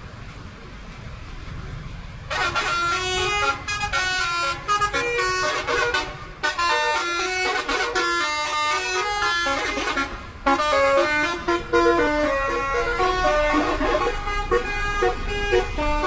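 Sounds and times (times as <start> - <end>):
multi-note air horn tune: 2.3 - 16.0.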